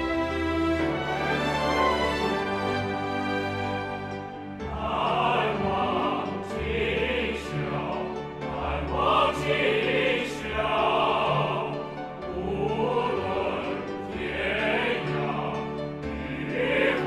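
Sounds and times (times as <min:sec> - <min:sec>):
choir singing: 0:00.0 - 0:17.0
orchestra playing: 0:00.0 - 0:17.0.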